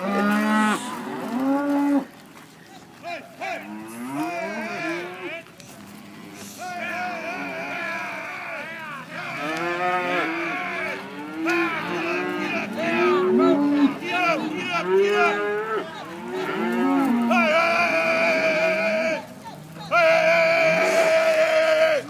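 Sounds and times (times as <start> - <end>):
herd of cattle mooing: 0.0 - 2.2, 3.0 - 22.0.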